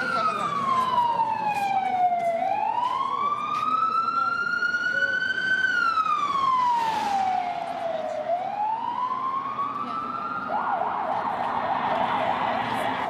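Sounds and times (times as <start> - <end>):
ambulance siren wailing and yelping: 0.0 - 13.0.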